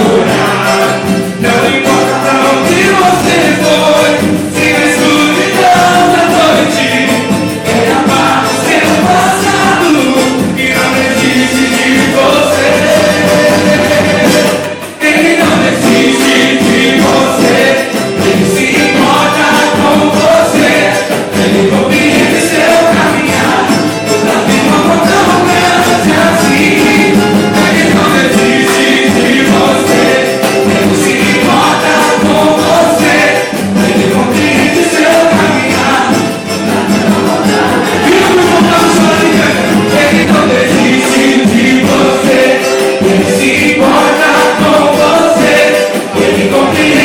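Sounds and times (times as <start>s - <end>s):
percussion: 0.0s - 47.0s
person singing: 0.0s - 47.0s
samba band playing: 0.0s - 47.0s.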